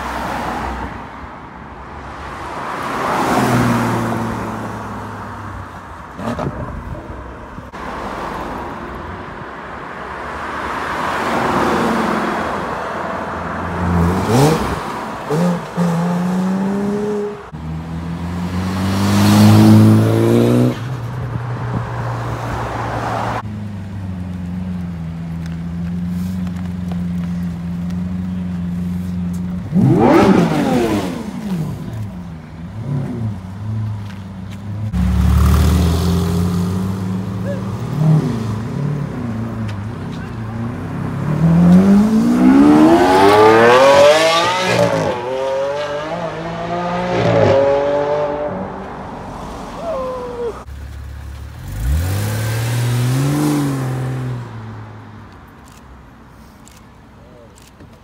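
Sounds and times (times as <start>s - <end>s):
car engines accelerating and revving: 0.0s - 55.8s.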